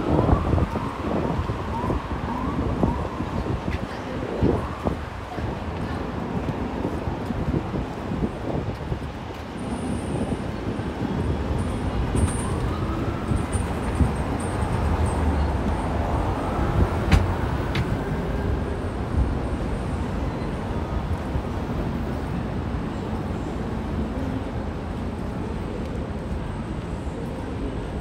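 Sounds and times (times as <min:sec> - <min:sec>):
passing vehicles rumble: 0:00.0 - 0:28.0.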